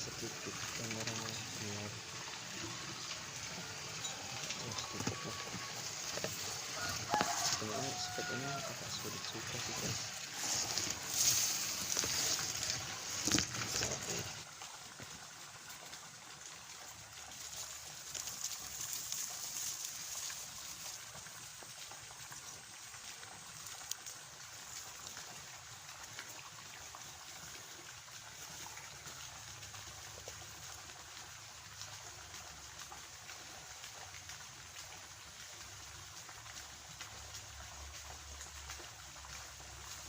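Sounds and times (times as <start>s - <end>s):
rustle: 0.0s - 40.0s
water trickling: 0.0s - 40.0s.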